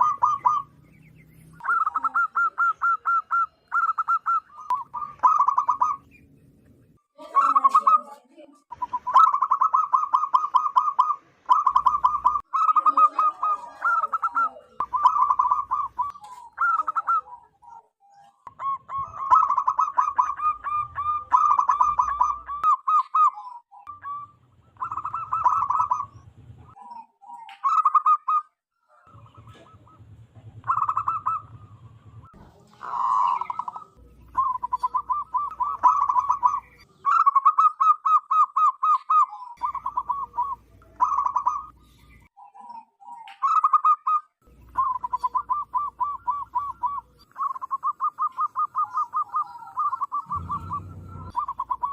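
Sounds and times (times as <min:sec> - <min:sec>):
dove calling: 0:00.0 - 0:51.9.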